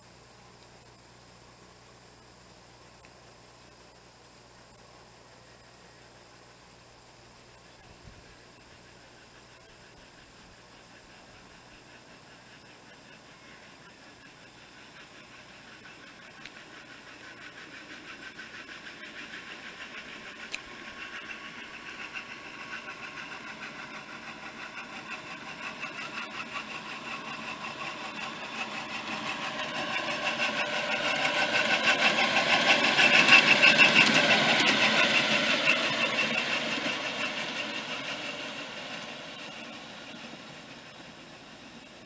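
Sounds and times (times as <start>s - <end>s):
model diesel locomotive running: 0.0s - 42.0s.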